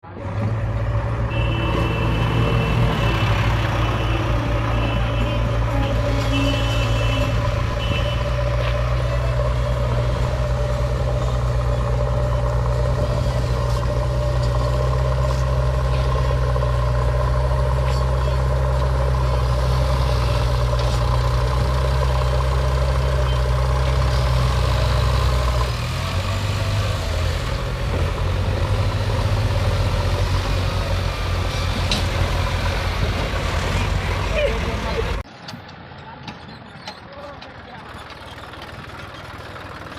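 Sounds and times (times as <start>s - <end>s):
diesel engine running under load: 0.0s - 36.0s, 36.6s - 39.9s.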